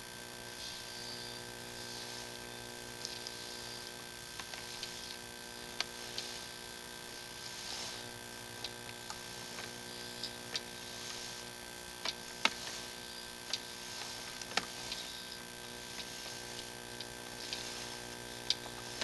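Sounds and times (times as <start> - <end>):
faint electrical hum: 0.0 - 19.0
cable clicking and ticking: 2.3 - 7.5, 8.2 - 19.0.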